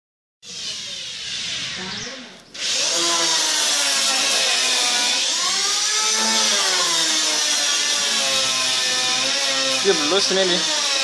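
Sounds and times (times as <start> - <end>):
motor running: 0.5 - 11.0.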